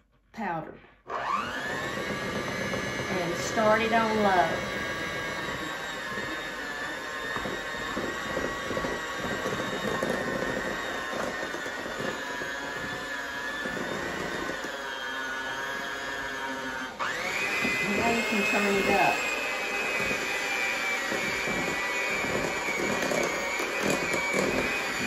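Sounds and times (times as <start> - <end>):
electric hand mixer whirring: 0.4 - 25.0.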